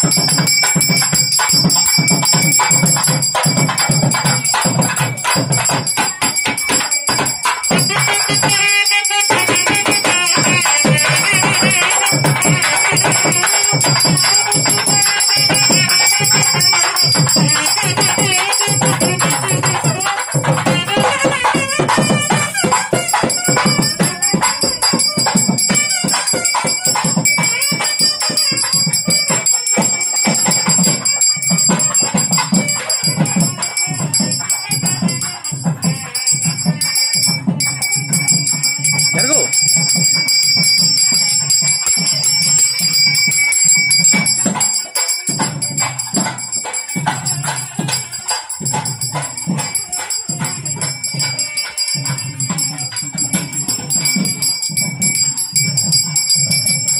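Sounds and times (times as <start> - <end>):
bells ringing and jingling: 0.0 - 56.9
rhythmic drumming: 0.0 - 56.9.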